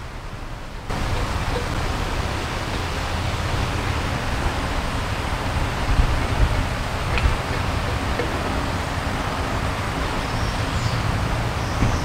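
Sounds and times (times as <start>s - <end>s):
wind buffeting microphone: 0.3s - 12.0s.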